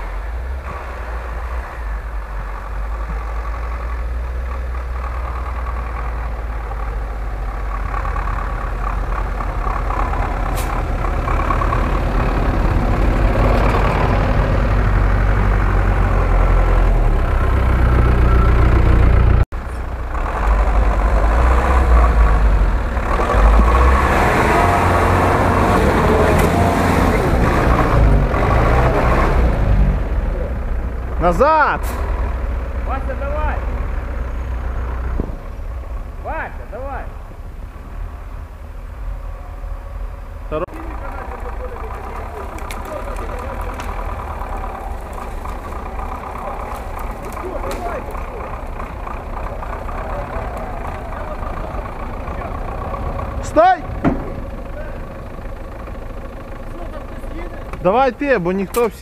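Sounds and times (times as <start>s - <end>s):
off-road vehicle engine: 0.0s - 59.0s
truck engine pulling hard: 0.0s - 59.0s.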